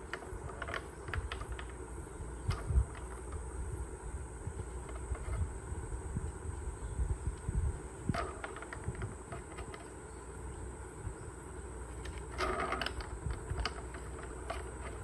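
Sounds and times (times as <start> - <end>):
constant low rumble: 0.0 - 15.0.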